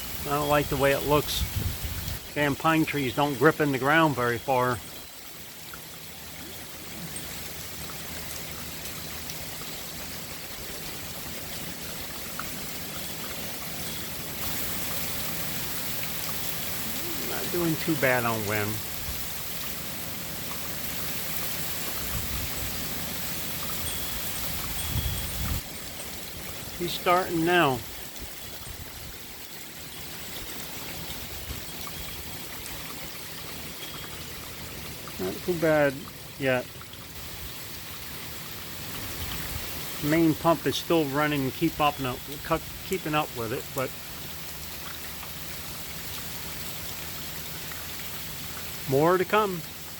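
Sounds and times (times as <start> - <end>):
heavy rain pouring: 0.0 - 49.9
water running and splashing: 0.0 - 49.9.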